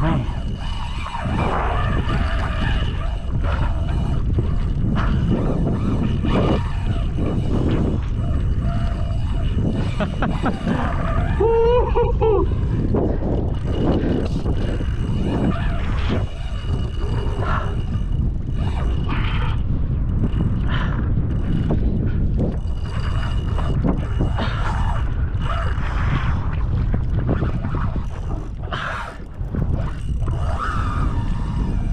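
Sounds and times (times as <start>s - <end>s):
fishing reel clicking and rasping: 0.0s - 31.9s
low rumble of wind and water: 0.0s - 31.9s.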